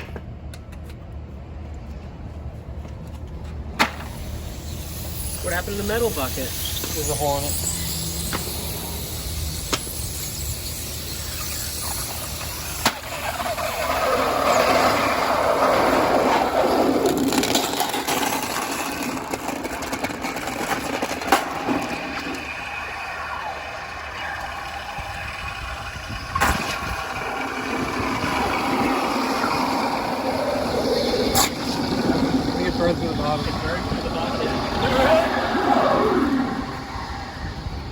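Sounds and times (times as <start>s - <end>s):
furnace burner roaring: 3.8s - 37.9s.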